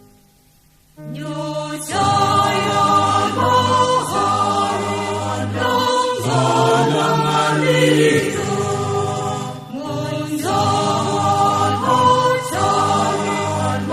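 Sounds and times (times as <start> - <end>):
choir singing a hymn: 1.0 - 13.9.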